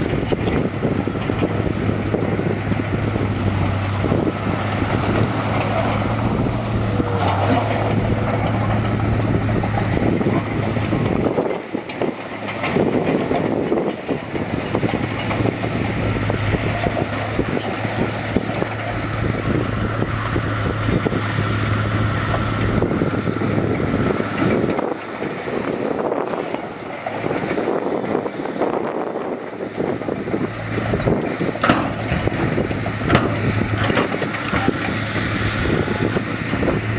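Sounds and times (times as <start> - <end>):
diesel engine humming: 0.0 - 36.9.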